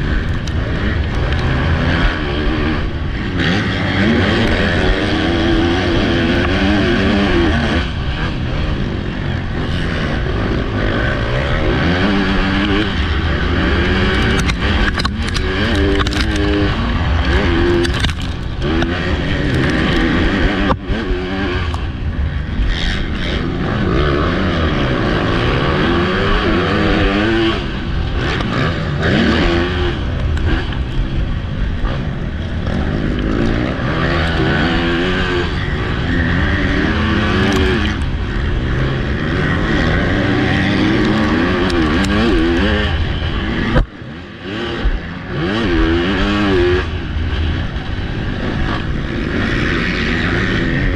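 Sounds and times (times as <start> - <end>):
motocross bike engine racing: 0.0 - 50.9.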